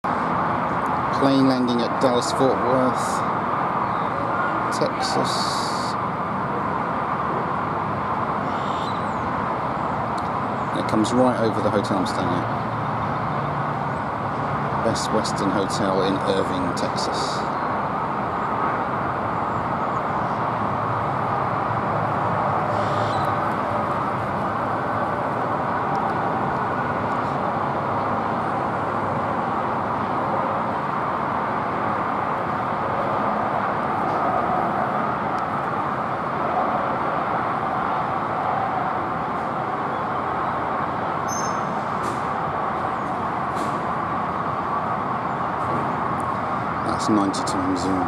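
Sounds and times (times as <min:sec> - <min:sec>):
urban traffic roar: 0:00.0 - 0:48.0.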